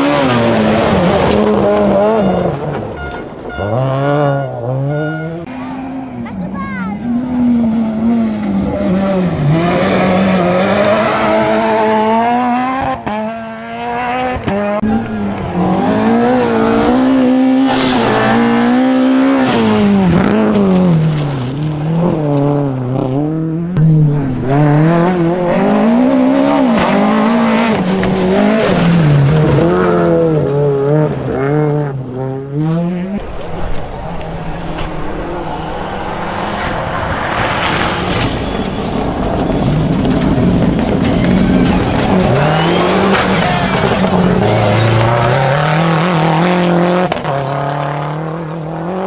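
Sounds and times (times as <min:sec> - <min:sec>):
rally car engine revving hard: 0:00.0 - 0:49.0.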